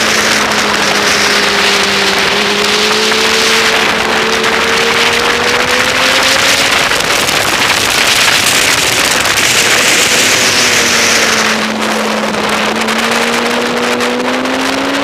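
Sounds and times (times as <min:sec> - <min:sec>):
loud wind rush: 0:00.0 - 0:15.0
motorcycle engine running: 0:00.0 - 0:15.0.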